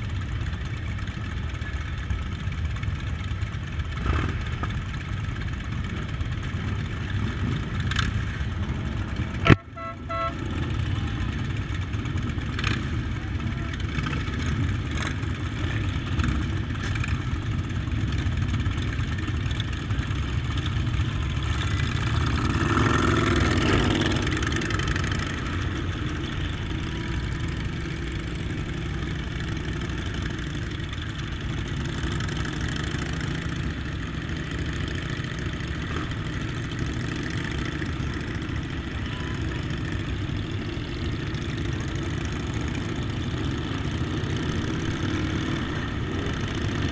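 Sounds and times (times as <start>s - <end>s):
motorcycle engines running: 0.0s - 46.9s.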